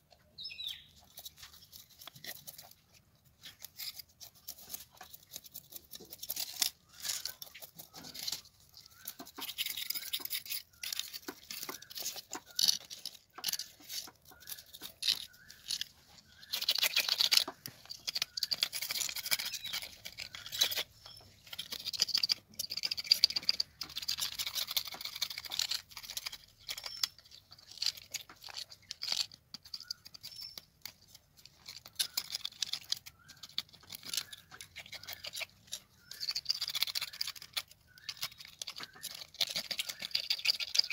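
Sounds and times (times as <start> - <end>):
scraping fish scales: 0.9 - 40.9.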